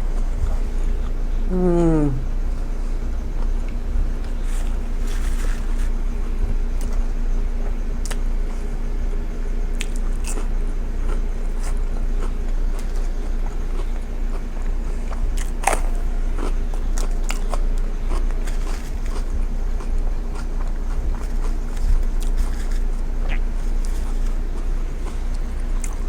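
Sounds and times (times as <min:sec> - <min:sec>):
close chewing and crunching: 0:00.0 - 0:26.0
steady low hum: 0:00.0 - 0:26.0.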